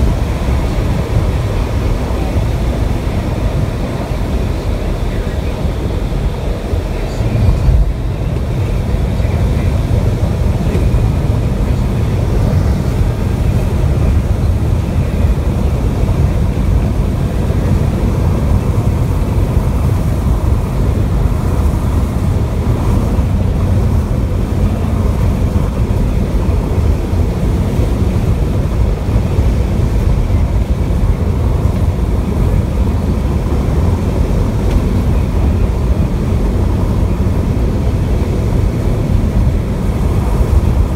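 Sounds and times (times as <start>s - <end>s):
moving vehicle road and wind noise: 0.0s - 40.9s.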